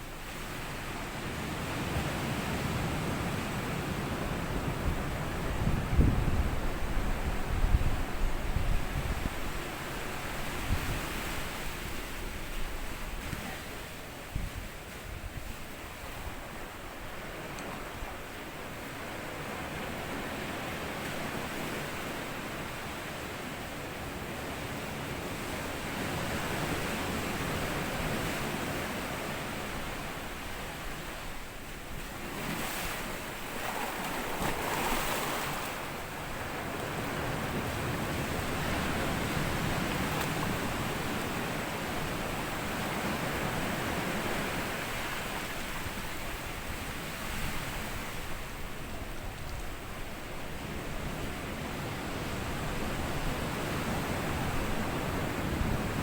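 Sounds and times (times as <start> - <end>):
waves washing over sandy beach: 0.0 - 56.0.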